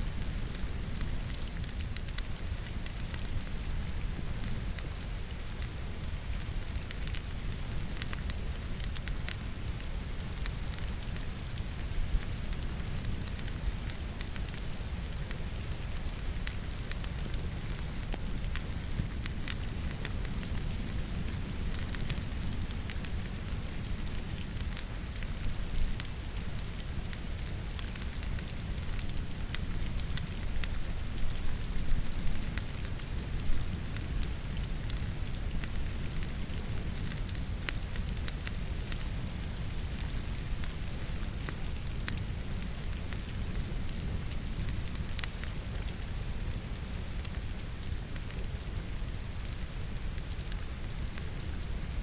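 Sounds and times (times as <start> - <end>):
rain falling: 0.0 - 52.0
wood logs crackling in fireplace: 0.0 - 52.0.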